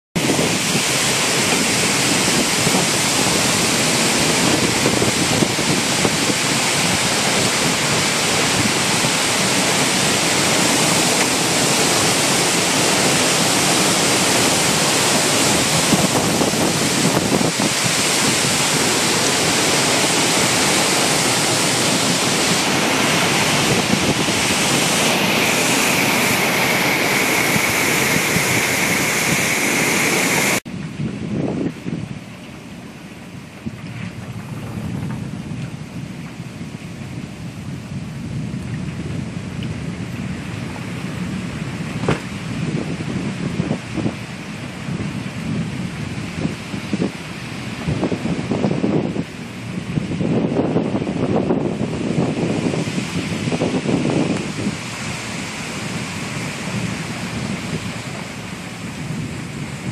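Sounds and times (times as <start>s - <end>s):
heavy rain: 0.2s - 59.9s
strong wind through trees: 0.2s - 59.9s
wind buffeting microphone: 0.2s - 59.9s.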